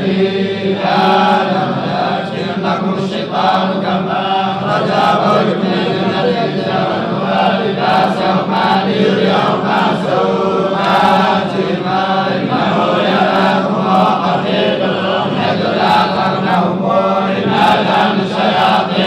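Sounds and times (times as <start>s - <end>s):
melodic chanted recitation: 0.0s - 19.0s.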